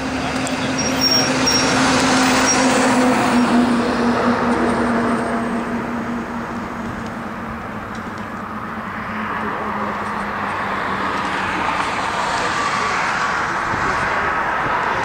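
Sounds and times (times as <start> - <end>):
passing truck engine hum: 0.0 - 15.0.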